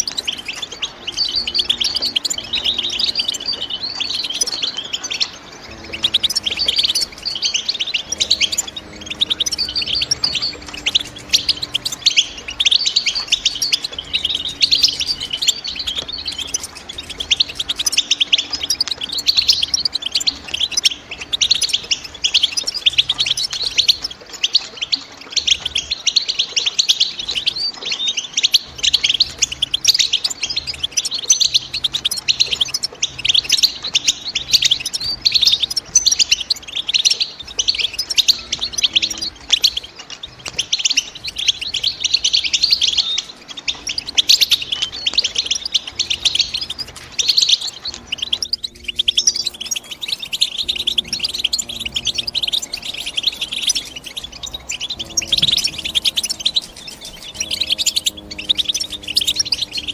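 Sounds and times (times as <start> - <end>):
finch twittering song: 0.0 - 59.9.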